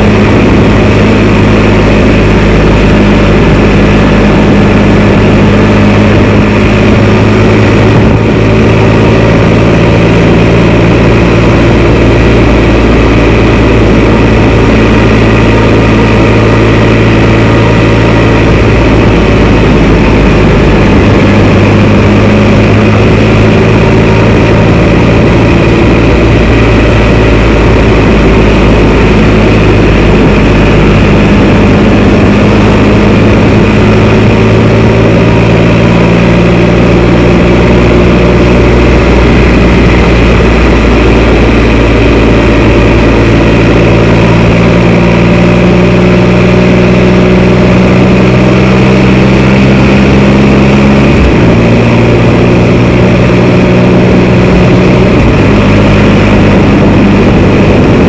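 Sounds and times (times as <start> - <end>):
motorcycle engine droning: 0.0 - 58.0.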